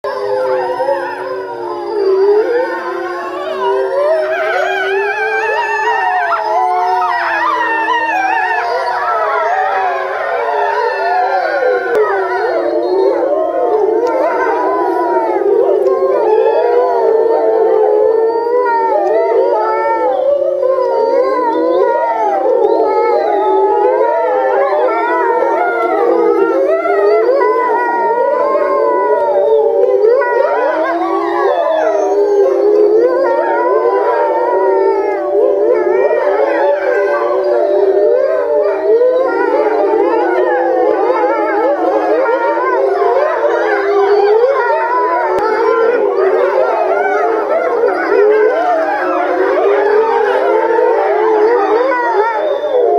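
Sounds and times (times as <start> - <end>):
wolves howling in chorus: 0.0 - 52.9.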